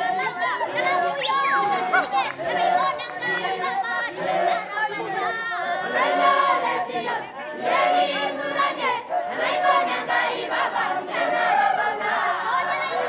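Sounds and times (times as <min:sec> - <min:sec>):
men chanting and singing: 0:00.0 - 0:13.0.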